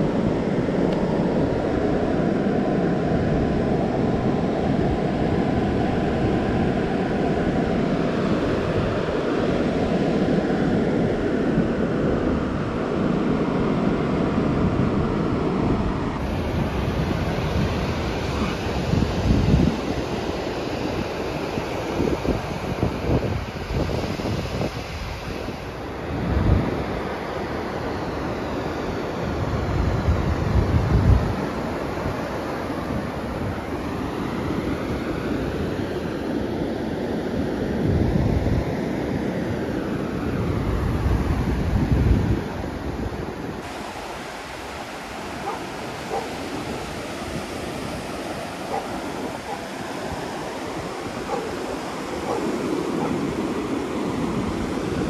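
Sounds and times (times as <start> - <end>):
surf washing on shore: 0.0 - 55.0
wind buffeting microphone: 0.0 - 55.0.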